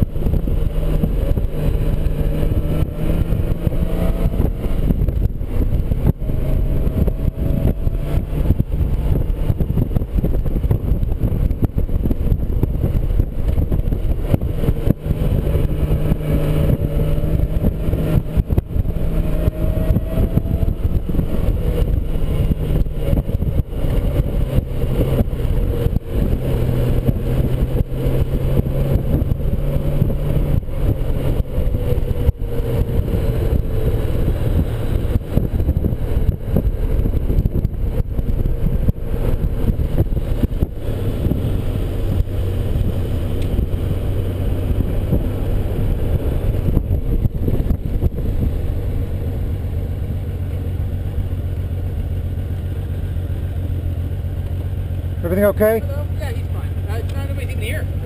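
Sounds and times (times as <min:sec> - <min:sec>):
motorcycle engine cruising: 0:00.0 - 0:58.0
wind buffeting microphone: 0:00.0 - 0:58.0.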